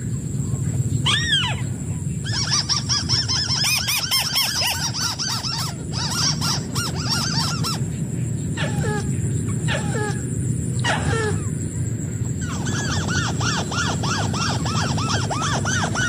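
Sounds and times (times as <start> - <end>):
crakes chattering calls: 0.0 - 16.0
steady low hum: 0.0 - 16.0
single downslurred bird calls: 1.0 - 16.0.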